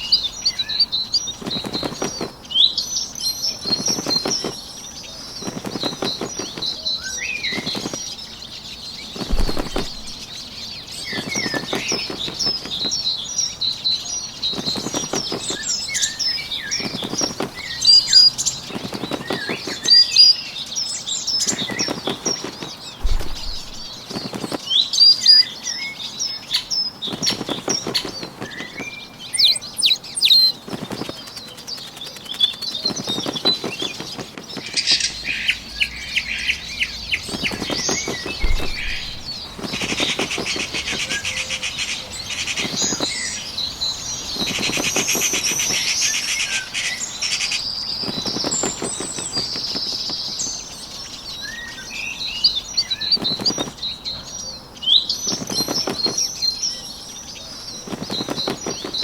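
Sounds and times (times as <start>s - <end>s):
birds chirping: 0.0s - 59.0s
bird wings fluttering: 0.4s - 25.7s, 26.5s - 50.8s, 53.0s - 53.9s, 55.1s - 59.0s.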